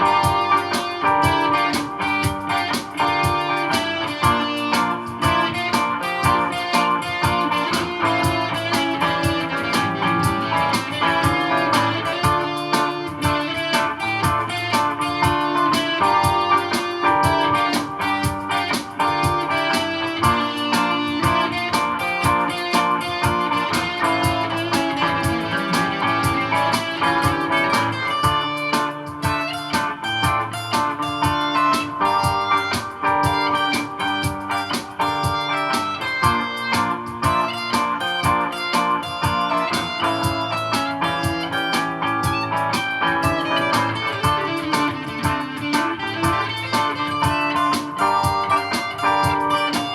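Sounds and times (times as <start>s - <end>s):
jazz guitar with looped layers: 0.0s - 49.9s.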